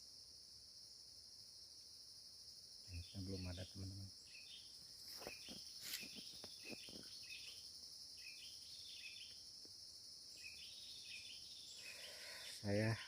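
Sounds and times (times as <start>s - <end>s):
chorus of crickets chirping: 0.0s - 13.0s.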